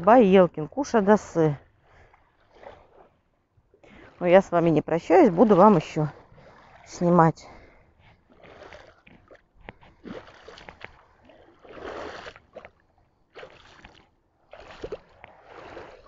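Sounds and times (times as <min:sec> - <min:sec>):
water splashing around wading feet: 0:01.6 - 0:16.0.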